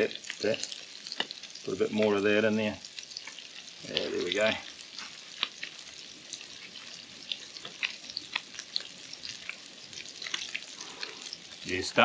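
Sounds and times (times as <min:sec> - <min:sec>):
small pops and crackles: 0:00.0 - 0:02.2, 0:02.8 - 0:12.0
fish sizzling in oil: 0:00.0 - 0:12.0.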